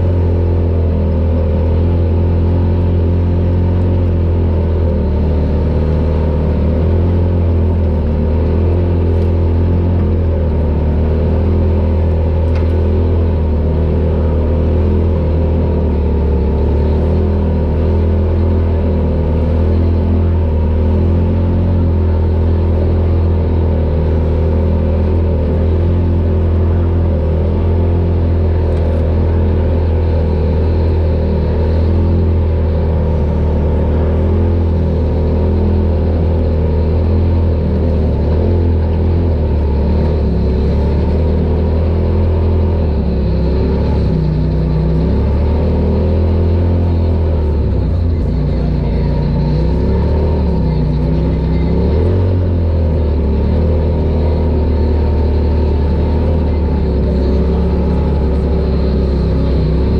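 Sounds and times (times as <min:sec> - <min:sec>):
engine running with deep drone: 0:00.0 - 0:59.9.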